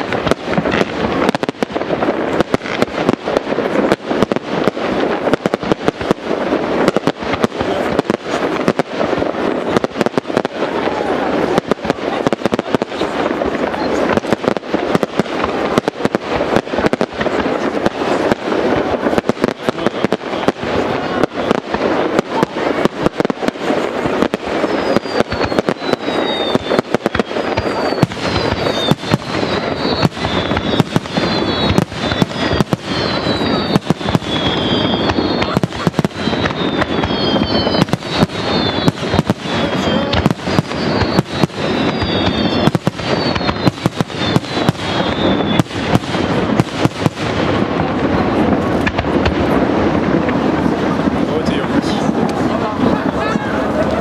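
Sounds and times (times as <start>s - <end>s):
falling firework whistles: 6.8s - 50.1s.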